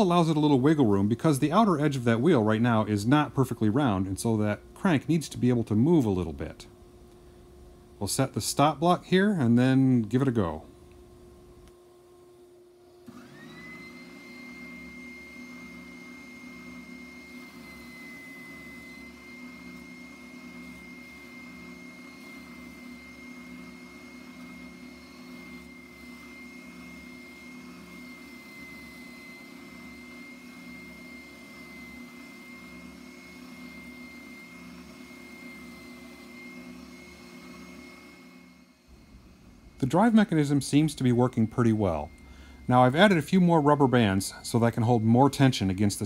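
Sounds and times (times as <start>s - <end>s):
spindle sander whining: 0.0s - 46.0s.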